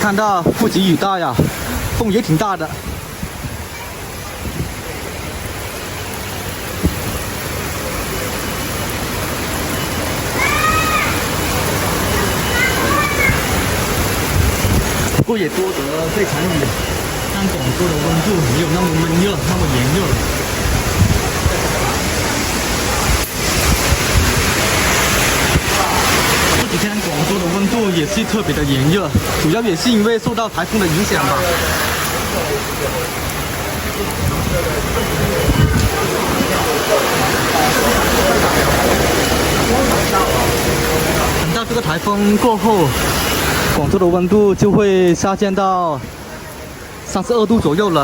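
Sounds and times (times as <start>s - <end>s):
heavy rain in strong wind: 0.0s - 48.0s.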